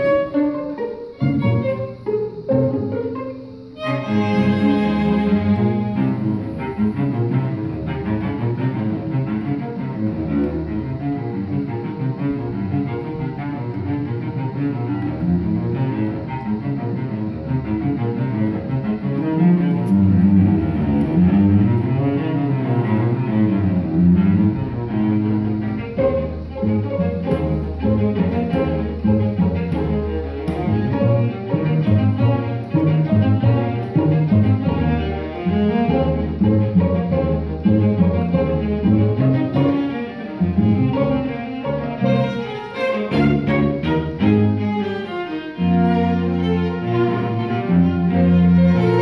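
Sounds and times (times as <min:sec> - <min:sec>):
string quartet playing: 0:00.0 - 0:49.0.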